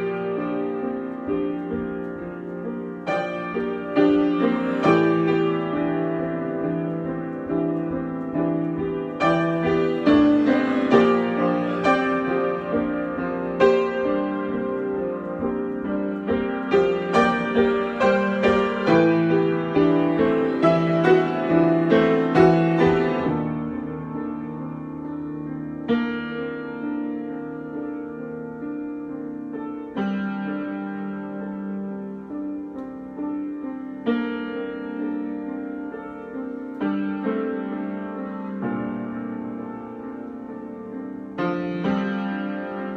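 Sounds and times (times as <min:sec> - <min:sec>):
solo piano improvisation: 0:00.0 - 0:42.9.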